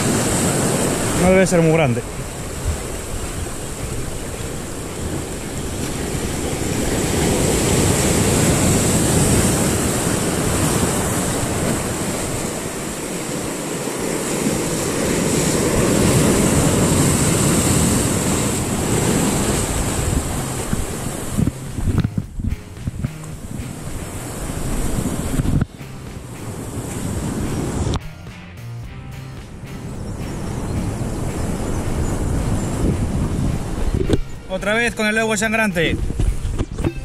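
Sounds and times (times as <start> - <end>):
sea surf washing among boulders: 0.0 - 28.0, 29.5 - 37.0.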